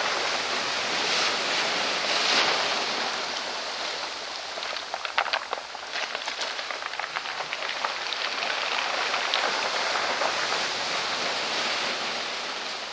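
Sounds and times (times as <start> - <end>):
waves splashing over rocks: 0.0 - 12.9.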